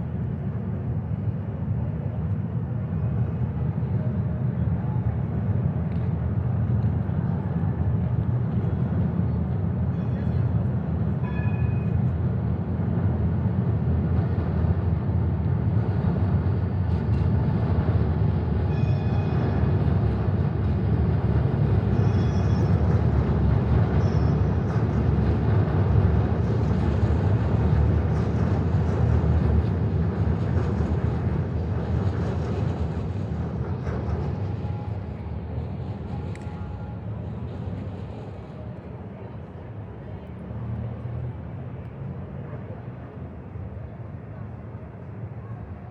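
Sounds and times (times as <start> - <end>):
low city rumble: 0.0 - 45.9.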